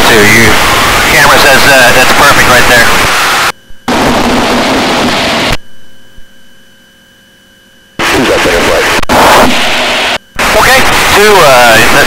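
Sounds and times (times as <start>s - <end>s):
open-mic radio hiss: 0.0s - 6.2s, 7.9s - 12.0s
faint electrical whine: 0.0s - 12.0s.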